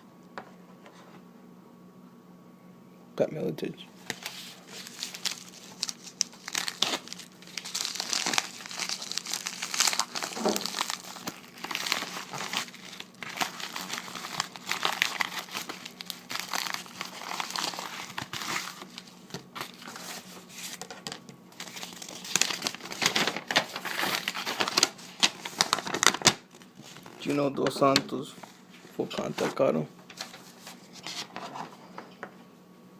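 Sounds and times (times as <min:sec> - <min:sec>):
packaging crinkling and rustling: 0:04.0 - 0:31.8.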